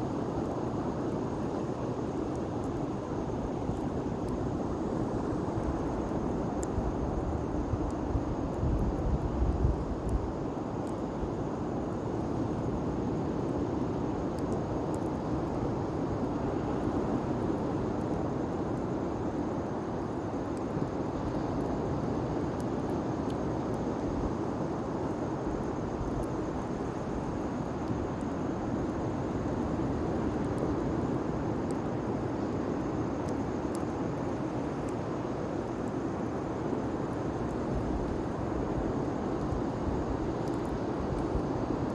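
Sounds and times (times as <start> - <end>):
fire crackling and popping: 0.0 - 41.9.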